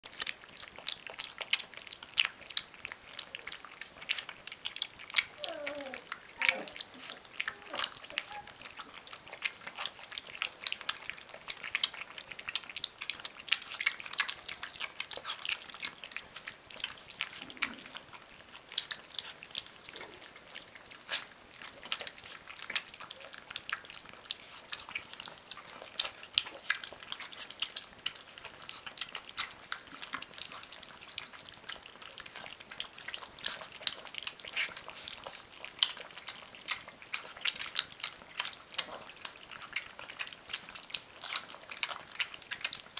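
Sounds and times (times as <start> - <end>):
puppies lapping and chewing: 0.0 - 42.9.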